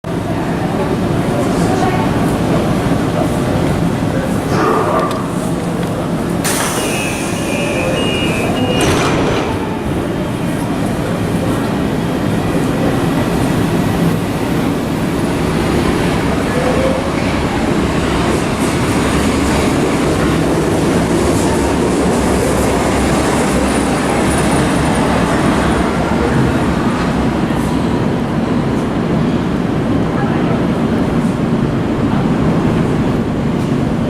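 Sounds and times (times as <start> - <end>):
subway train rumbling on track: 0.0 - 34.0.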